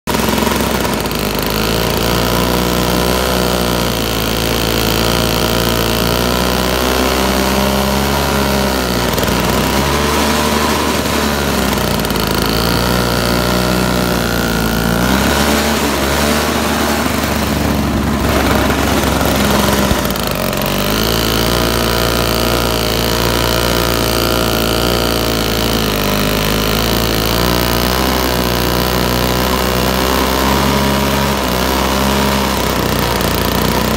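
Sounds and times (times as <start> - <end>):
snowblower engine under load: 0.0 - 33.9.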